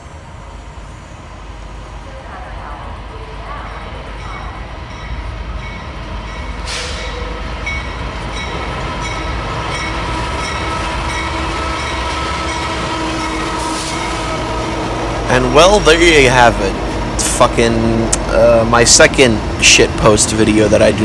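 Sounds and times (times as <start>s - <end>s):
locomotive engines rumbling: 0.0s - 21.0s.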